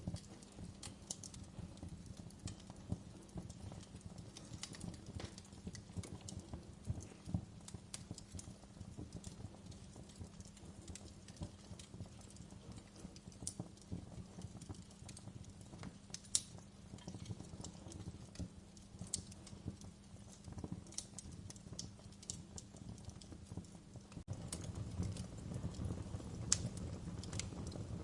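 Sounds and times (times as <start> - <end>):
low rumble of flames: 0.0 - 28.0
wood fire pops and snaps: 0.0 - 28.0.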